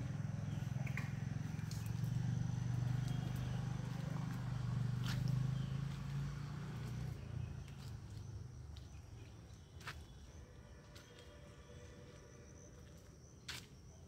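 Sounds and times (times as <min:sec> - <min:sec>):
faint high insect hum: 0:00.0 - 0:14.0.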